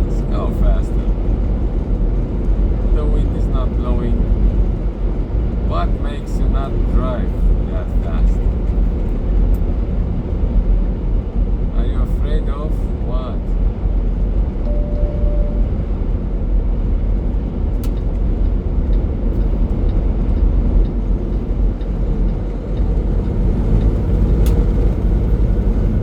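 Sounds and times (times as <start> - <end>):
road noise: 0.0 - 26.0
truck engine rumble: 0.0 - 26.0.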